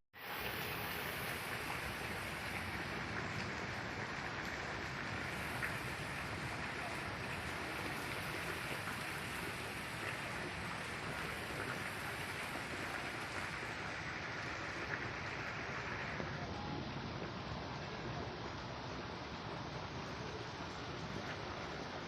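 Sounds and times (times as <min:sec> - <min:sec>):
faint rain patter: 0:00.2 - 0:22.0
light rain falling: 0:00.2 - 0:22.0.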